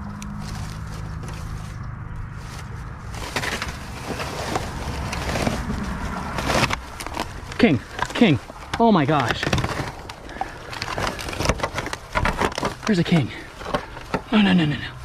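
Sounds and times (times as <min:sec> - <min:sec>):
steady low rumble: 0:00.0 - 0:14.1
footsteps through dry vegetation: 0:00.0 - 0:15.0.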